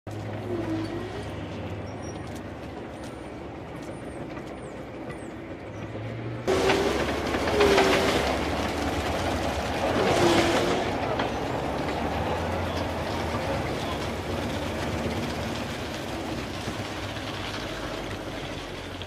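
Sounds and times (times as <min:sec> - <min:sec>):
vehicle engine drone and whine: 0:00.1 - 0:19.0
steel tracks clattering: 0:00.3 - 0:19.0.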